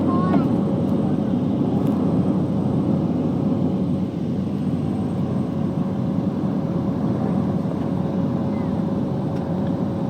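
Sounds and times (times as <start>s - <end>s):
turboprop engine drone: 0.0s - 10.0s.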